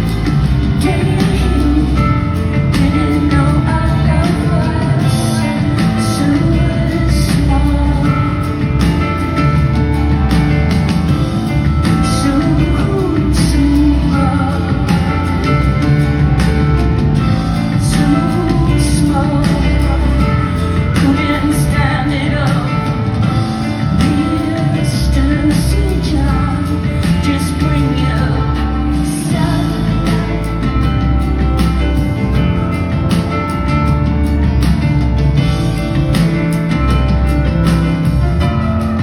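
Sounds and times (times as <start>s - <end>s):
woman singing: 0.0s - 9.9s, 11.4s - 33.8s
live band playing: 0.0s - 39.0s.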